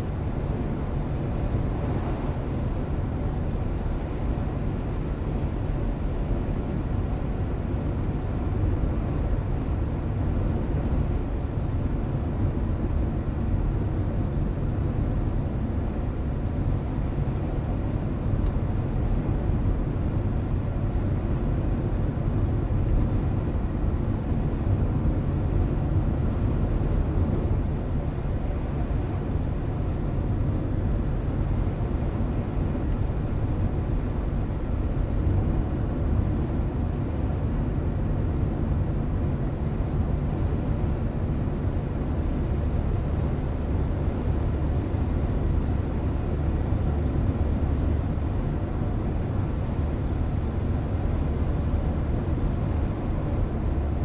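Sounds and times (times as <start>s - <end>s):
car driving heard from inside: 0.0s - 54.0s.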